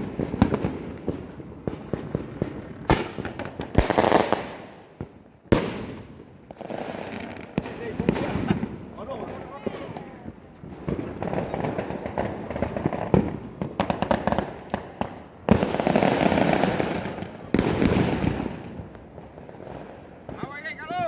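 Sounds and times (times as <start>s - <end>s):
fireworks banging: 0.0s - 21.0s.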